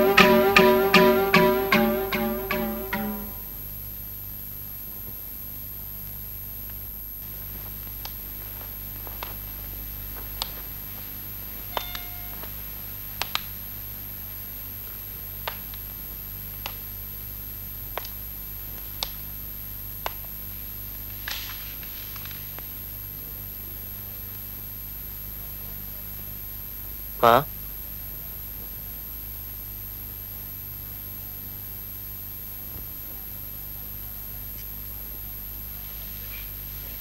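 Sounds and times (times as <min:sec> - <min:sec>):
low hum and hiss: 0:00.0 - 0:37.0.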